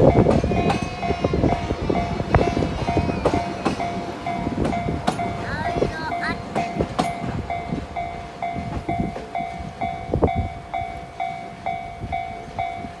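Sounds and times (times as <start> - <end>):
level crossing bell ringing: 0.0 - 13.0
train wagons clattering on rails: 0.0 - 13.0.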